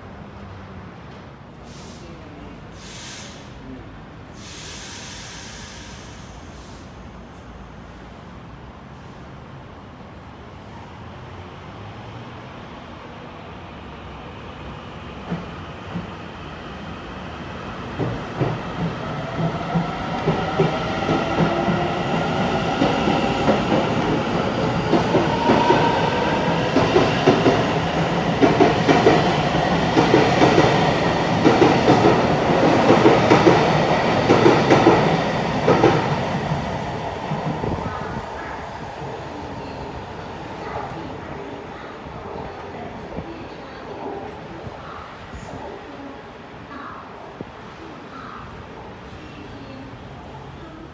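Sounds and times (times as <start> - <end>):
train passing: 4.3 - 46.8.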